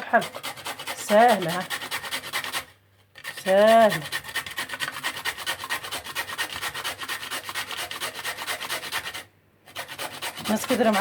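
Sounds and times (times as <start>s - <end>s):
turnip being scraped: 0.0s - 11.0s.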